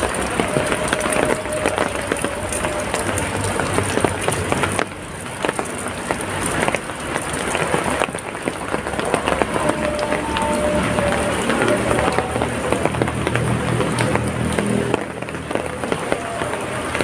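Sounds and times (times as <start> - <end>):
drips splashing on surfaces: 0.0 - 17.0
heavy rain falling: 0.0 - 17.0.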